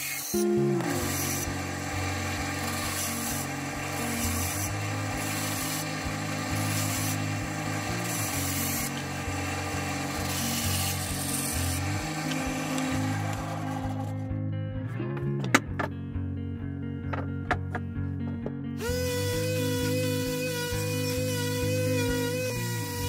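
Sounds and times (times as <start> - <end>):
bandsaw cutting wood: 0.0 - 14.3, 18.8 - 23.0.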